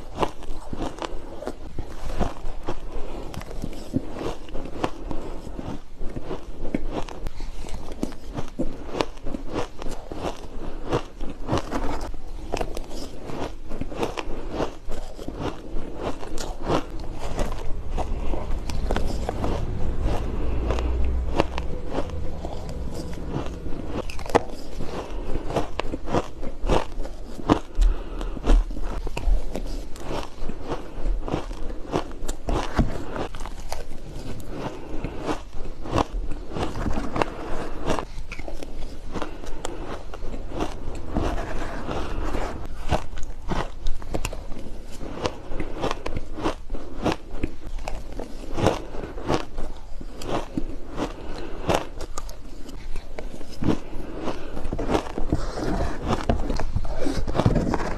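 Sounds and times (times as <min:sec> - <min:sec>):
ice being chewed: 0:00.0 - 0:57.9.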